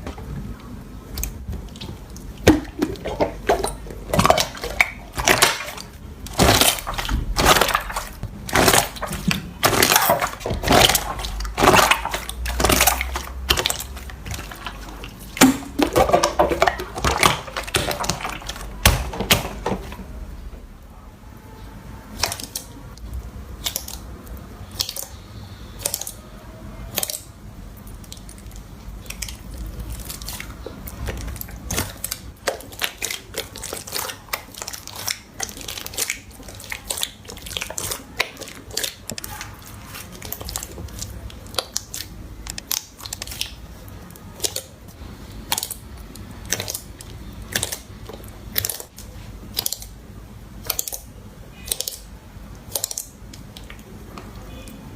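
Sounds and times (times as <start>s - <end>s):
slime clicking and popping: 1.1s - 19.7s, 22.1s - 25.2s, 25.8s - 26.2s, 26.9s - 39.4s, 40.0s - 53.9s.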